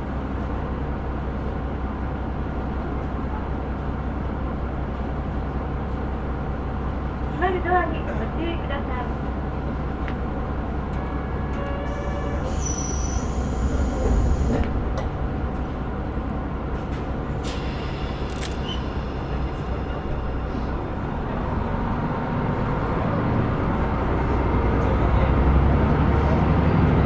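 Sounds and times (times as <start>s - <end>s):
diesel railcar engine idling: 0.0s - 27.0s.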